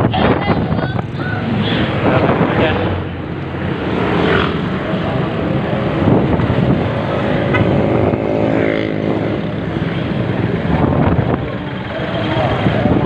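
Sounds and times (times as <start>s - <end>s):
city traffic: 0.0s - 13.0s.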